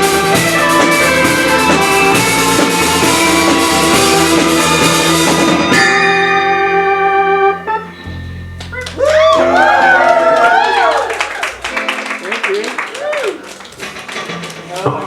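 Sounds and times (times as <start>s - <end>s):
live rock band playing: 0.0s - 14.2s
held guitar chord ringing: 0.7s - 12.8s.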